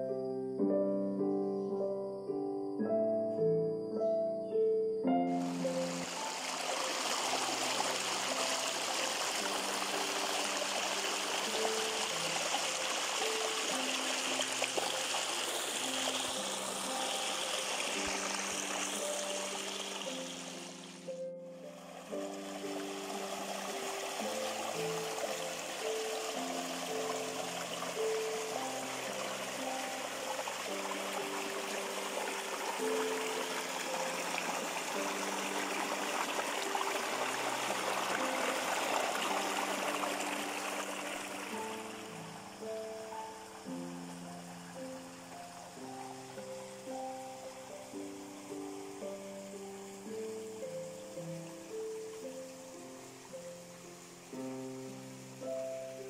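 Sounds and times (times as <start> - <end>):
soft background music: 0.0 - 56.0
stream splashing over stones: 5.4 - 56.0.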